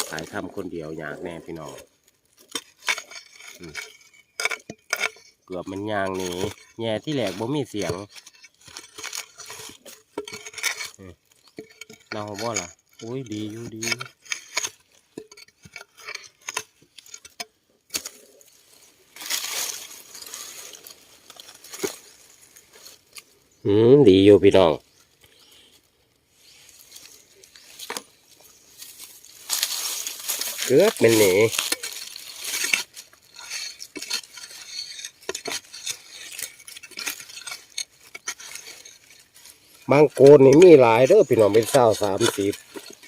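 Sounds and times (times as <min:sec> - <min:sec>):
rustling: 0:00.0 - 0:23.6, 0:24.2 - 0:43.0
spade scraping soil: 0:00.0 - 0:43.0.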